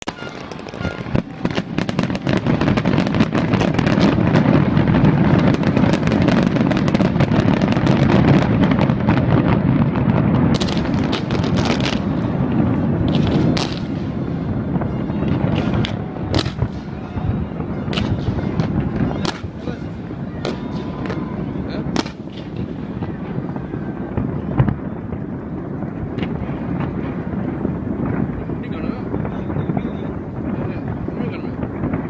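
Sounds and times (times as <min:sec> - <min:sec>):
fireworks cracks and bangs: 0:00.0 - 0:32.0.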